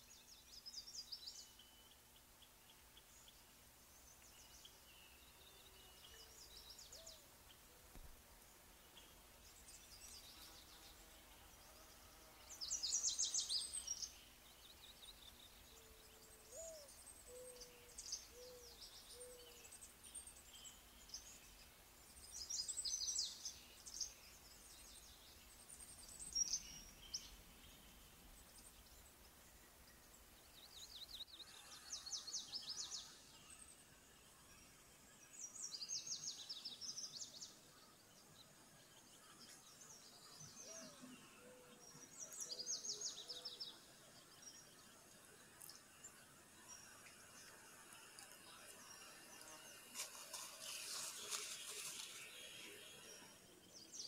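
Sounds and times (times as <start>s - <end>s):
birds chirping and trilling: 0.0s - 54.0s
faint steady hum: 0.0s - 54.0s.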